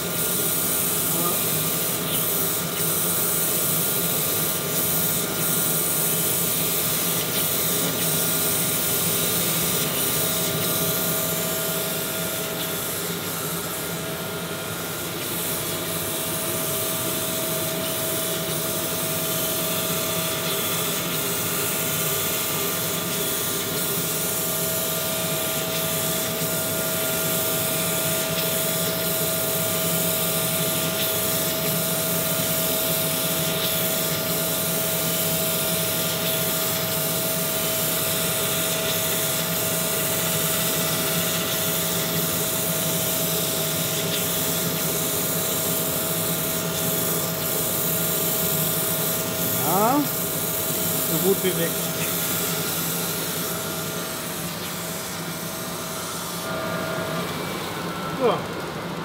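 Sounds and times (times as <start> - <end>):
grinding wheel hiss: 0.0 - 58.4.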